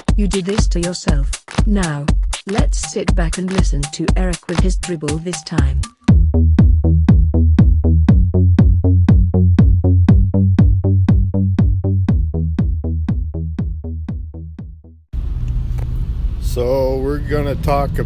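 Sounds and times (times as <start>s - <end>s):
electronic music kick-drum beat: 0.0s - 15.1s.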